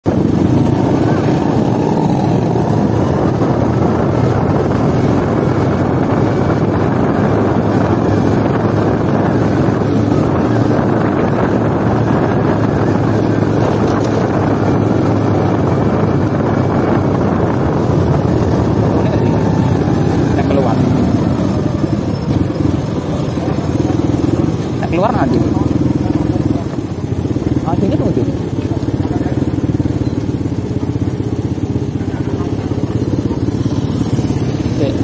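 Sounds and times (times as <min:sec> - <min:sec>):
motorcycle engine running: 0:00.0 - 0:35.0
wind noise on microphone: 0:00.0 - 0:35.0.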